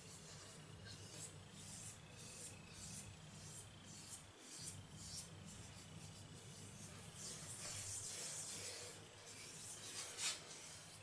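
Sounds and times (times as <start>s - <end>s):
fingertips rubbing gritty paste on skin: 0.0s - 11.0s.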